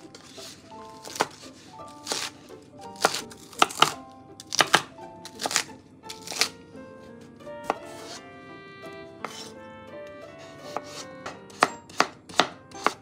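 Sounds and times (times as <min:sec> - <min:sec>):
soft background music: 0:00.0 - 0:13.0
knife chopping on cutting board: 0:00.2 - 0:06.6, 0:07.5 - 0:08.2, 0:09.2 - 0:13.0.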